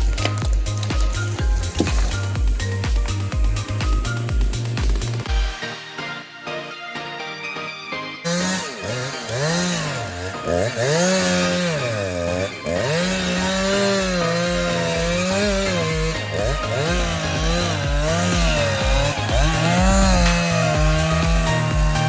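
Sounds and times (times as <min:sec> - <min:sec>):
chainsaw cutting wood: 0:00.0 - 0:05.3, 0:08.2 - 0:22.0.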